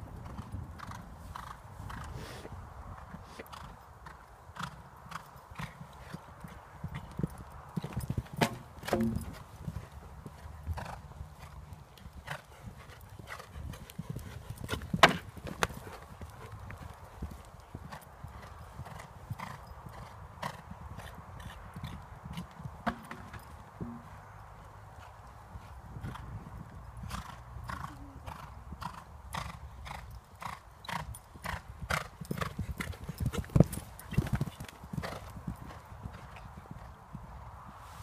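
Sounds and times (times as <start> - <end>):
horse hoofbeats on sand: 3.0 - 38.0.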